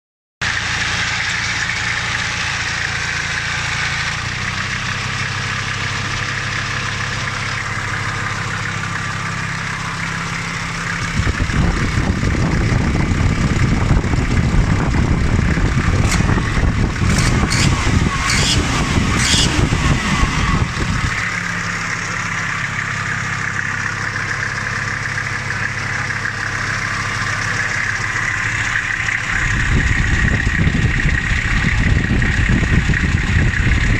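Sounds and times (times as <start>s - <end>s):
diesel engine running: 0.4s - 33.9s.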